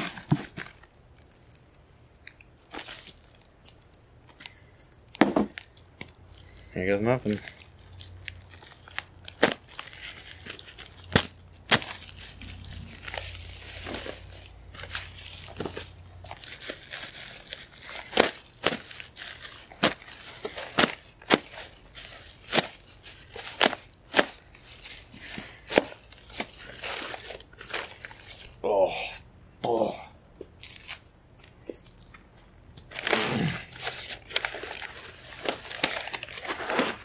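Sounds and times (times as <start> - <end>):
plastic bag crinkling and crackling: 2.3 - 28.6, 31.7 - 37.0.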